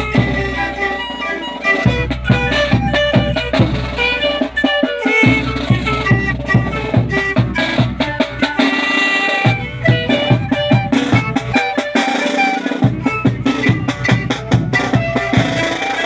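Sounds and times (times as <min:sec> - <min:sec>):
panpipe ensemble playing: 0:00.0 - 0:16.0.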